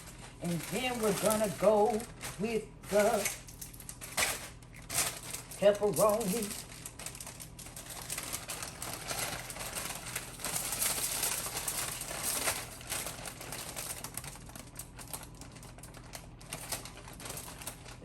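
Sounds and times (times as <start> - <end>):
plastic package crinkling: 0.0 - 18.0.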